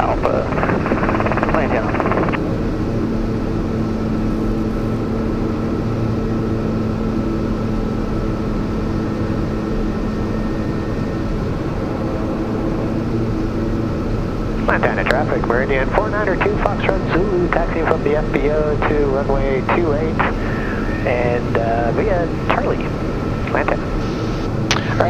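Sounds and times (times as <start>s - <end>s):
turboprop engine droning and whining: 0.0s - 25.0s.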